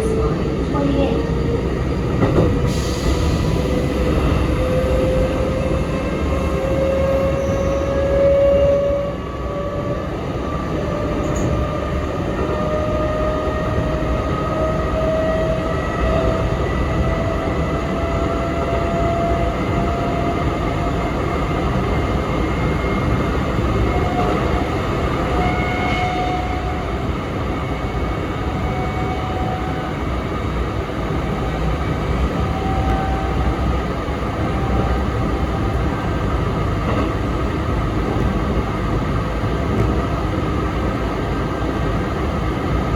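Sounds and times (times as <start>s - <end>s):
wheels rumbling on rail: 0.0s - 42.9s.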